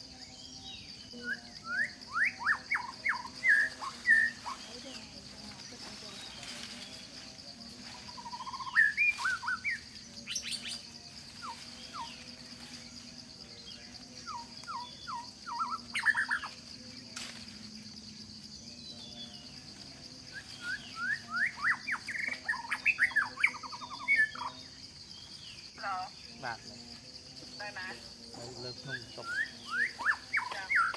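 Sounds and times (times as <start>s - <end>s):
high-pitched insect drone: 0.0s - 30.9s
wild birds chirping: 0.0s - 30.9s.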